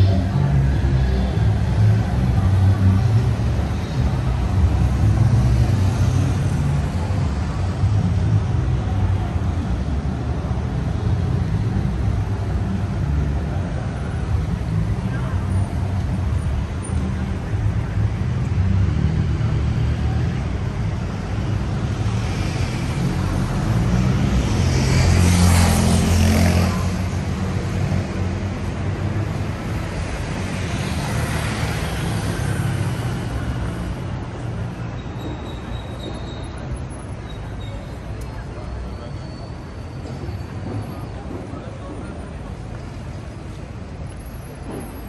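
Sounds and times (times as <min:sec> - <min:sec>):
road traffic rumble: 0:00.0 - 0:45.0.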